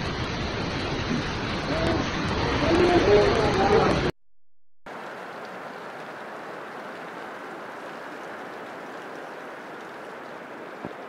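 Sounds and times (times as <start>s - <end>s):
heavy rain pouring: 0.0s - 4.2s, 4.9s - 11.0s.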